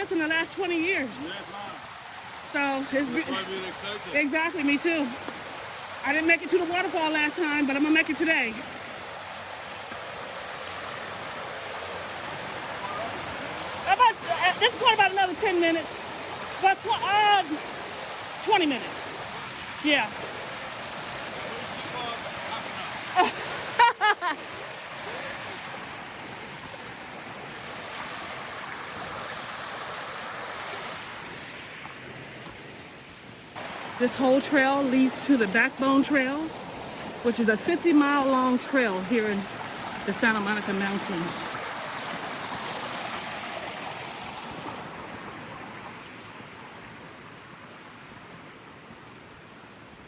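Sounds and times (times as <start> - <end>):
creek water running over rocks: 0.0 - 50.0.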